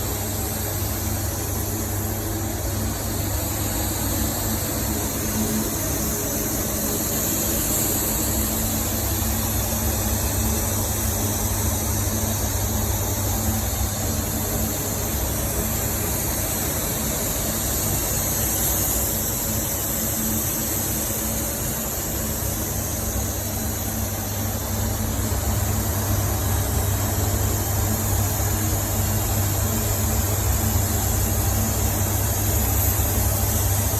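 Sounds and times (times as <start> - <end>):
machine humming with high hiss: 0.0 - 33.9.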